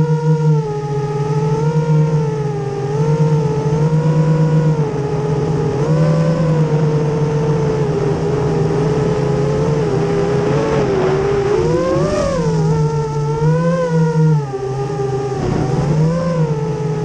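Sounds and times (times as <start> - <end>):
drone motors whining: 0.0 - 17.0
steady low hum: 0.0 - 17.0.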